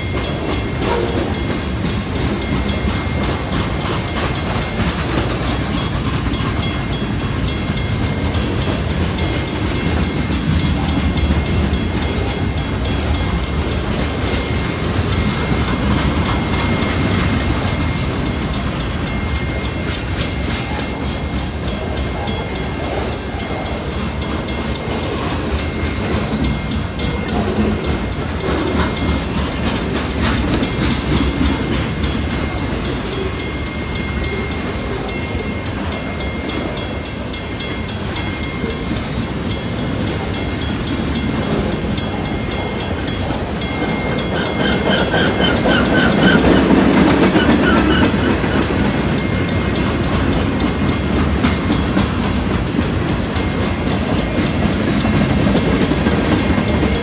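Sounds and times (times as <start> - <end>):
freight train rumble: 0.0 - 57.0
wheels clattering over rails: 0.0 - 57.0.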